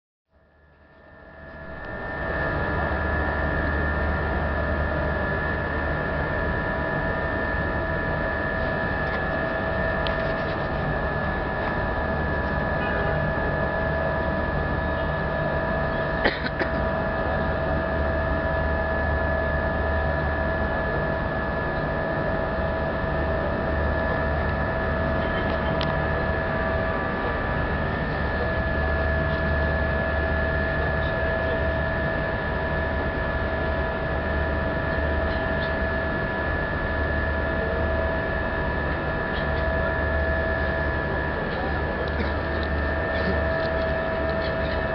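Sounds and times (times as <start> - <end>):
high steady whine: 0.3 - 44.9
ship engines low drone: 0.3 - 44.9.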